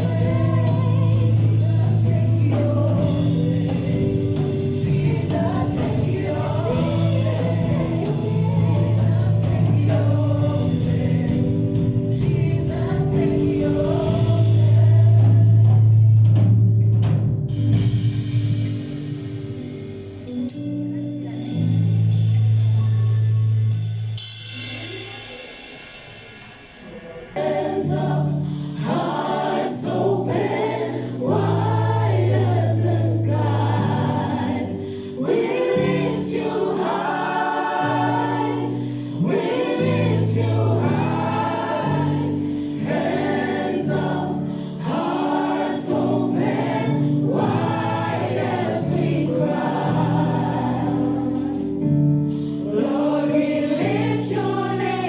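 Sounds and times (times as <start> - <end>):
gospel choir singing: 0.0 - 16.2, 26.7 - 55.0
band bass notes: 0.0 - 25.0, 27.4 - 55.0.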